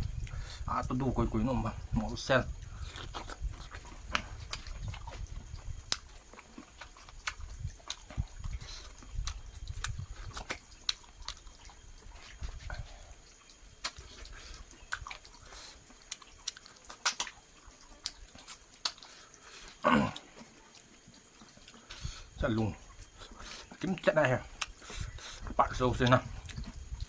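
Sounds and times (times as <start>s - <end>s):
chewing and lip smacks: 2.0s - 27.0s.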